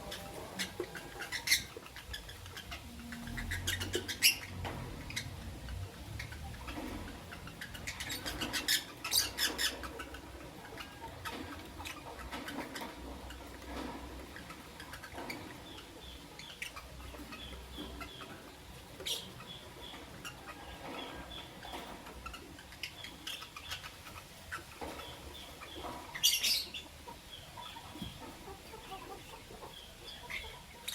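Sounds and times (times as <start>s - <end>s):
lovebirds chirping: 0.0s - 30.9s.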